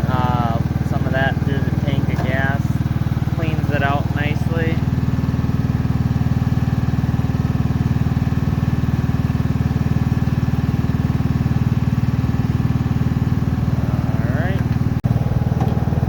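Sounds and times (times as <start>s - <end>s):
lawn tractor engine idling: 0.0s - 16.0s.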